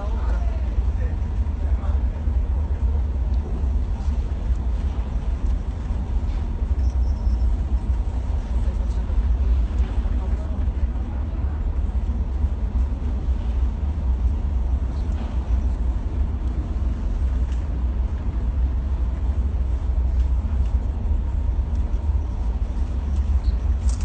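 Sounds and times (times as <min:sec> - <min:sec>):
vehicle rumble in motion: 0:00.0 - 0:24.0.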